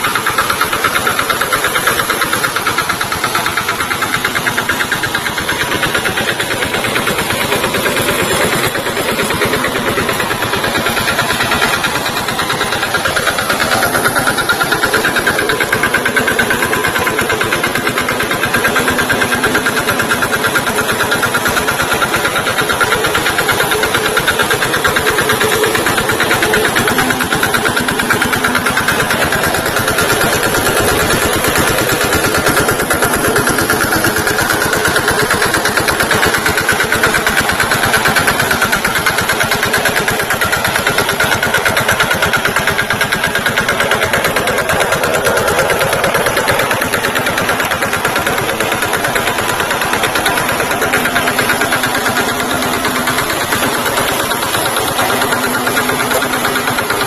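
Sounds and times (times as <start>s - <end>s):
tractor diesel engine chugging: 0.0s - 57.0s.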